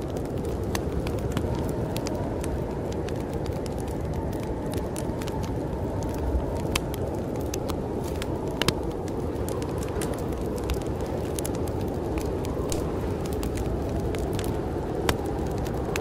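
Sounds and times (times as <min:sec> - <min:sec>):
snowstorm wind rushing: 0:00.0 - 0:16.0
wood fire crackling: 0:00.0 - 0:16.0.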